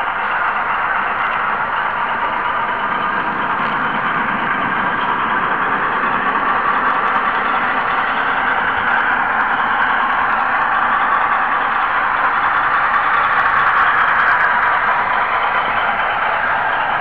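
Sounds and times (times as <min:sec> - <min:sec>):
model train rushing noise: 0:00.0 - 0:17.0.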